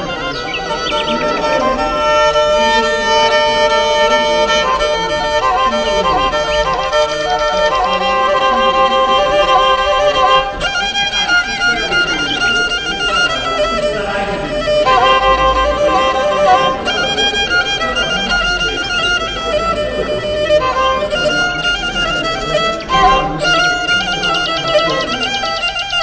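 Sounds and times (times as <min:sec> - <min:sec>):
violin playing held notes: 0:00.0 - 0:26.0.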